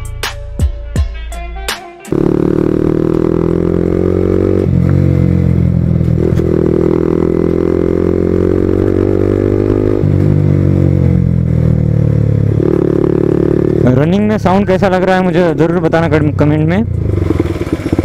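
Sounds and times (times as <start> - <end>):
motorcycle engine running: 2.1 - 18.0.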